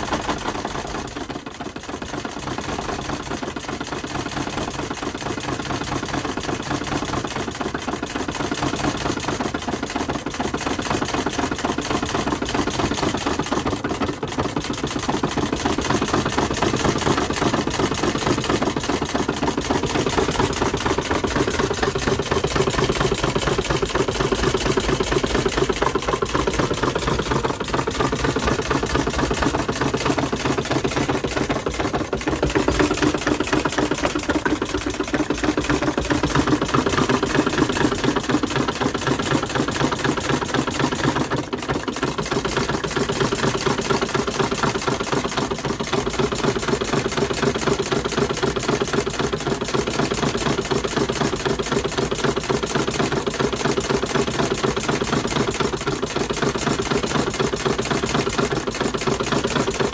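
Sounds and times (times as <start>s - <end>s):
model engine rattling: 0.0s - 59.9s.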